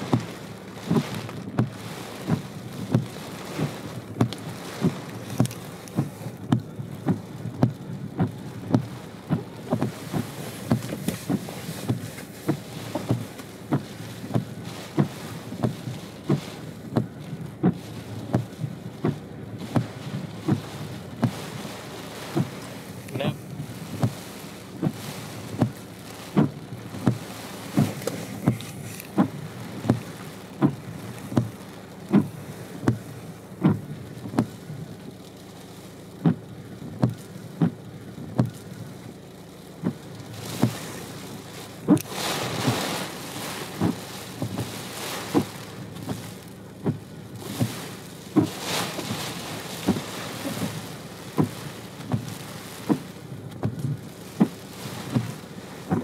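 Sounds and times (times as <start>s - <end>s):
car engine running: 0.0s - 56.0s
regular soft thump: 0.0s - 56.0s.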